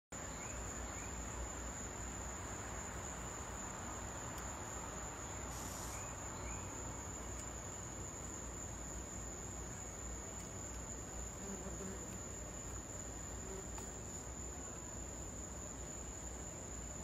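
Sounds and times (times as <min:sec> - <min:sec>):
outdoor background hiss: 0:00.1 - 0:17.0
insect chorus drone: 0:00.2 - 0:17.0.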